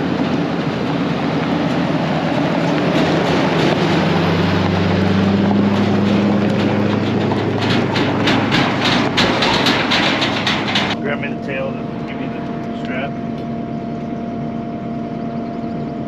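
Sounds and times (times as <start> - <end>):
tyres on gravel: 0.0 - 13.5
pickup truck engine hum: 0.0 - 16.0.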